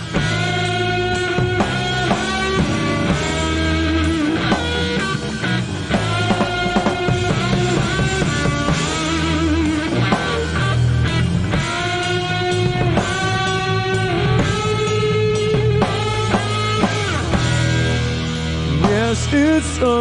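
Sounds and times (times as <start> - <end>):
bass and drums: 0.0 - 20.0
lead guitar bending notes: 0.0 - 20.0.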